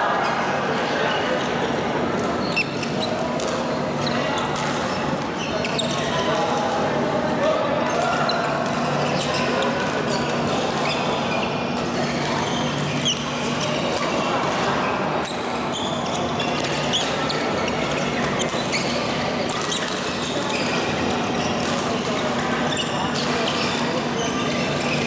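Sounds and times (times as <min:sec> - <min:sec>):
shoes squeaking on court floor: 0:00.2 - 0:25.0.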